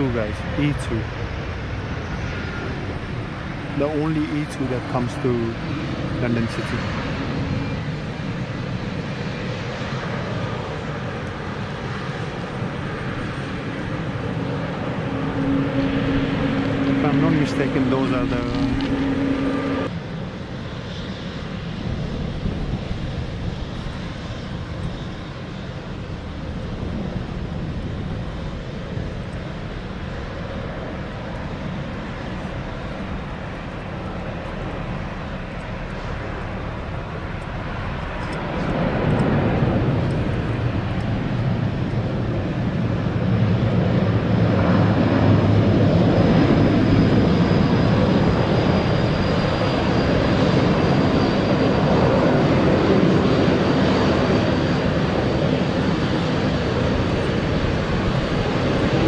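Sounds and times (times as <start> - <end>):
turboprop engine and propeller drone: 0.0 - 59.0.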